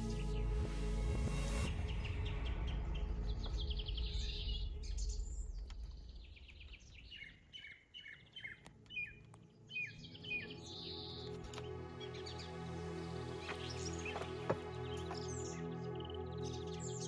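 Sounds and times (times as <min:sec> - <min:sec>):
songbirds chirping: 0:01.4 - 0:17.0.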